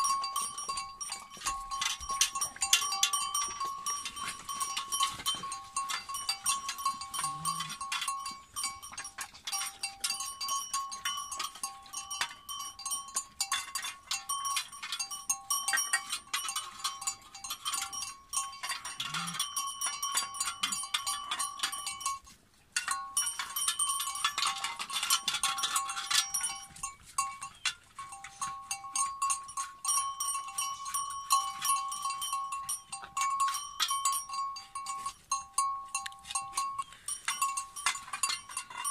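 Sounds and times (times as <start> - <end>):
dogs lapping and chewing food: 0.0 - 38.9
metal bowl clinking: 0.0 - 38.9.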